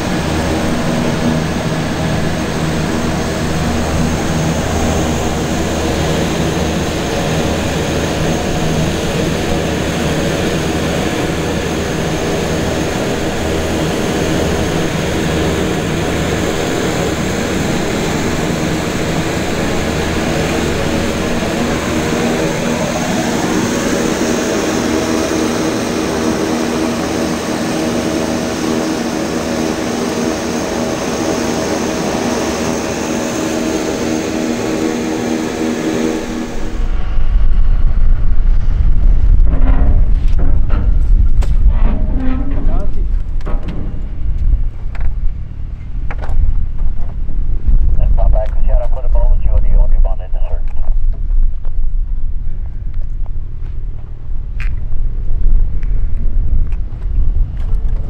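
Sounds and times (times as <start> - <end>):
propeller aircraft engine running: 0.0 - 58.0.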